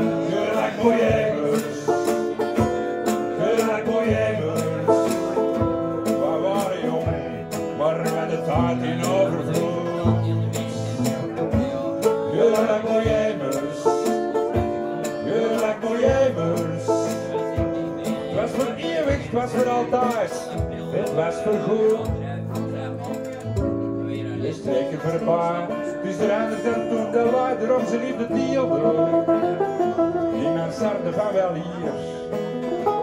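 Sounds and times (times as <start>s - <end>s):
acoustic guitars strumming: 0.0s - 33.0s.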